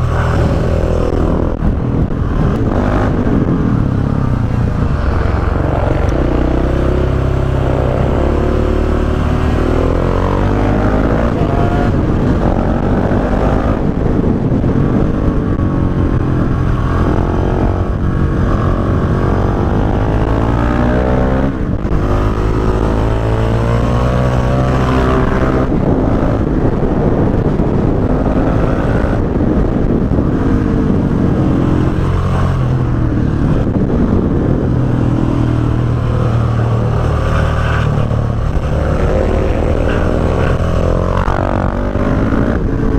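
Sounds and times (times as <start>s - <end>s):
loud motorcycle engine revving: 0.0s - 42.9s.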